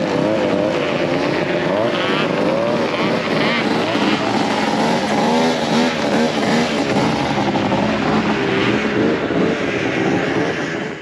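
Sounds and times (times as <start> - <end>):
two-stroke snowmobile engine: 0.0 - 11.0.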